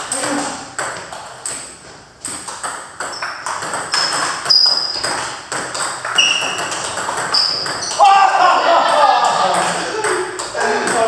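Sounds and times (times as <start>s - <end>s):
table tennis balls clicking: 0.0s - 8.2s, 9.2s - 11.0s.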